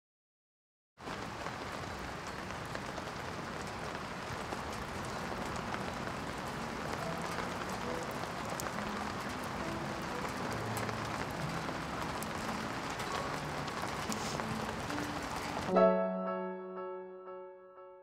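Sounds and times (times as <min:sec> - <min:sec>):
rain hissing: 0:01.0 - 0:15.7
raindrop ticks: 0:01.0 - 0:15.7.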